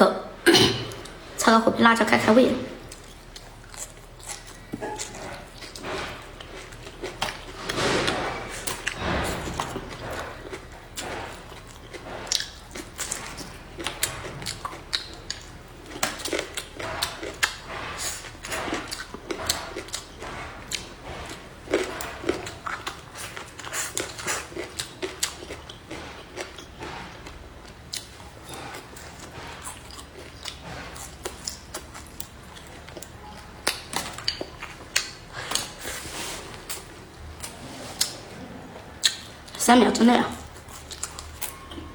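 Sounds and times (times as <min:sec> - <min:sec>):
chewing and crunching: 0:02.0 - 0:41.9.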